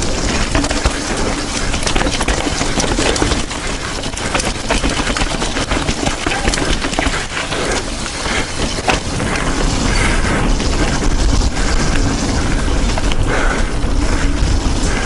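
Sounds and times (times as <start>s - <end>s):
bike clattering over bumps: 0.0s - 15.0s
wind buffeting microphone: 0.0s - 15.0s.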